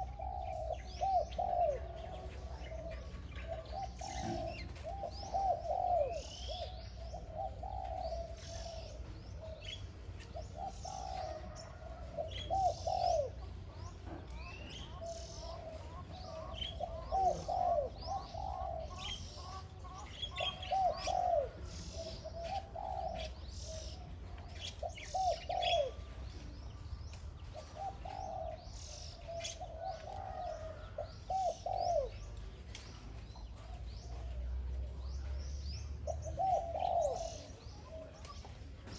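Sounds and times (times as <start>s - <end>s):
dove cooing: 0.0s - 38.9s
small birds chirping: 0.0s - 38.9s.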